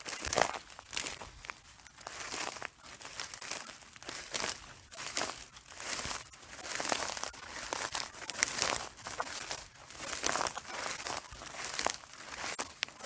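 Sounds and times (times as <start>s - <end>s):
footsteps crunching on straw: 0.0s - 13.0s.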